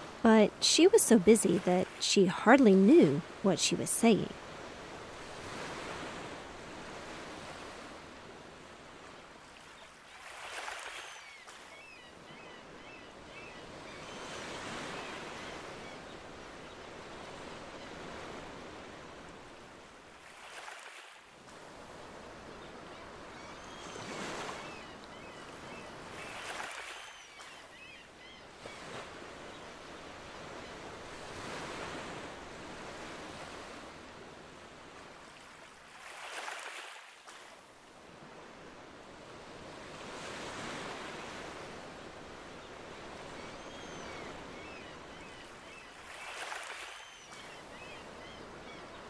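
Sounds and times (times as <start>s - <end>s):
ocean waves lapping on beach: 0.0s - 49.0s.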